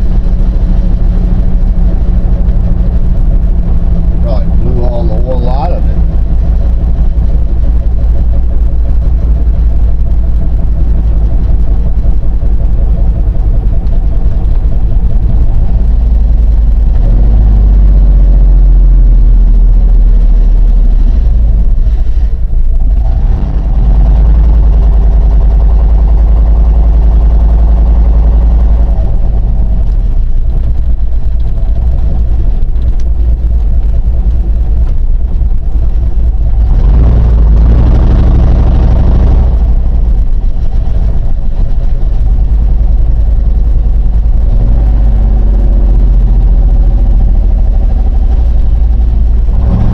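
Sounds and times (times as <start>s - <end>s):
truck engine drone: 0.0s - 49.9s.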